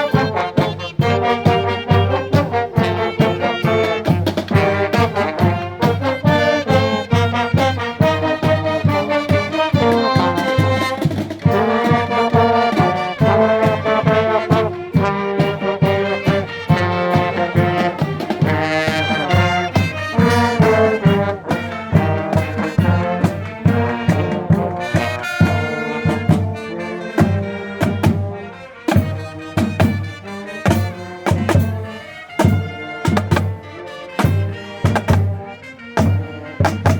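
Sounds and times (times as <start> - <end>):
marching band brass melody: 0.0 - 36.9
steady drum beat: 0.0 - 36.9.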